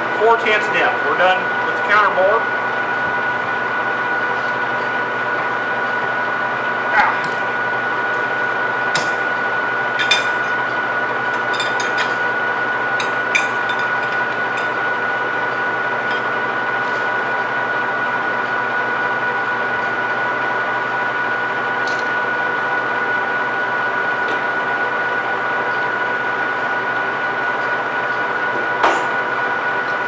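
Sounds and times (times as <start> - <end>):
lathe spindle humming and whining: 0.0 - 30.0.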